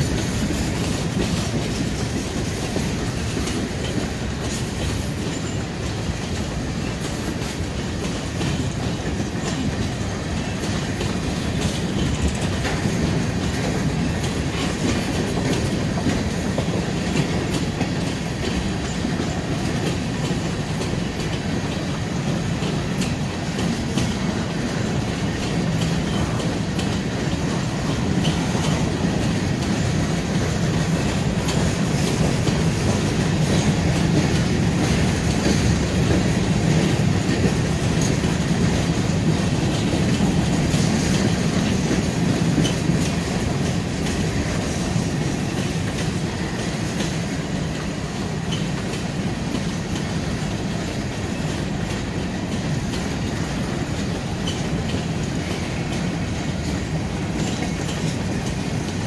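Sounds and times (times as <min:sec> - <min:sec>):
freight train rumbling: 0:00.0 - 0:59.0
wheels clacking over rail joints: 0:00.0 - 0:59.0.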